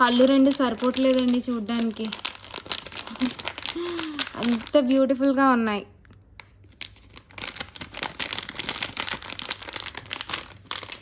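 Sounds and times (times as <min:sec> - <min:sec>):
packaging crinkling: 0:00.0 - 0:05.2, 0:06.0 - 0:11.0.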